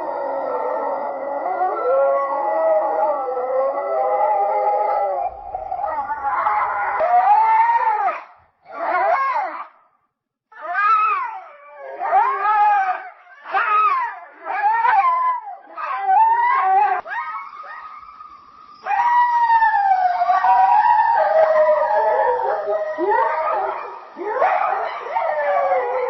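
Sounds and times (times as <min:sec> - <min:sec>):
wolves howling: 0:00.0 - 0:09.8, 0:10.5 - 0:26.0.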